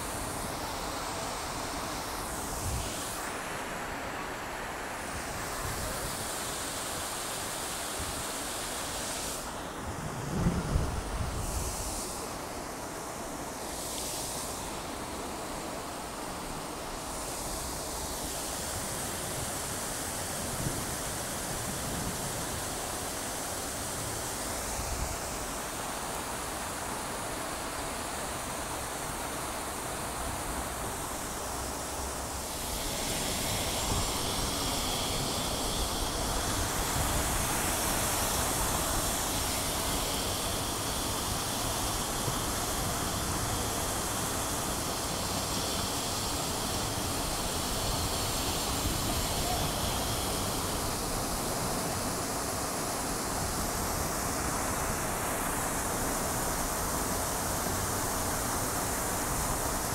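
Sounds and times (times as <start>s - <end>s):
fountain jets splashing: 11.0s - 59.9s.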